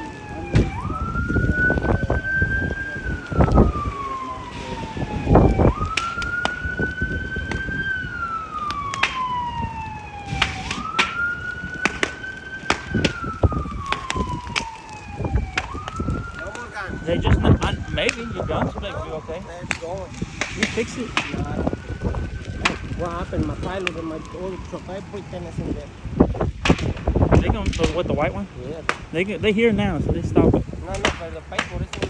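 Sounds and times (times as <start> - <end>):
fire crackling and popping: 0.0 - 32.0
fire engine siren wailing: 0.0 - 32.0.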